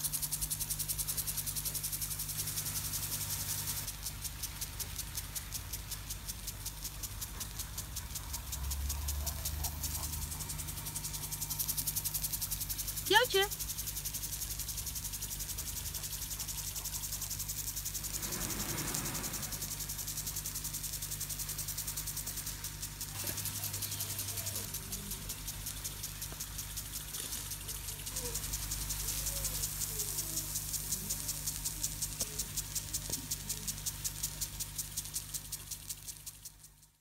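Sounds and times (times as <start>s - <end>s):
low steady hum: 0.0s - 33.9s
sprinkler pulsing hiss: 0.0s - 37.0s.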